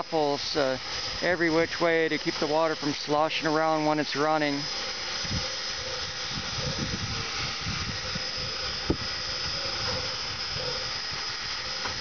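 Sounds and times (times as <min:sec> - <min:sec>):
faint high whine: 0:00.0 - 0:12.0
steam hissing: 0:00.0 - 0:12.0.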